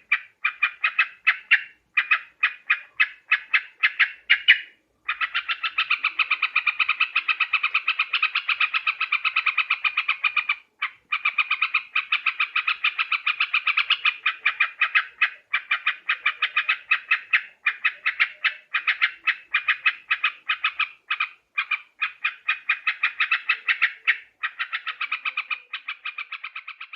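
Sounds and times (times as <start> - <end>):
bird chattering: 0.0 - 26.9.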